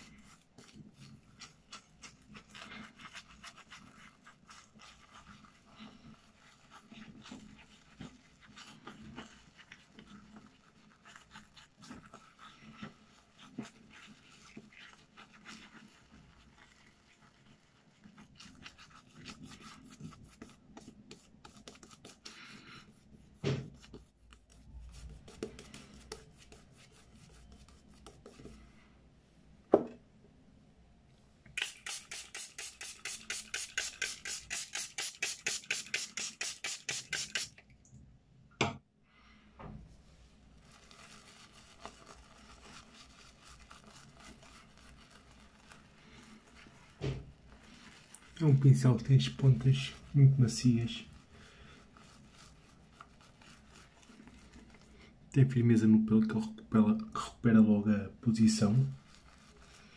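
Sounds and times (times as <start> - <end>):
shaving brush bristles brushing: 0.0 - 28.8, 31.6 - 37.7, 40.5 - 56.9, 57.5 - 59.9.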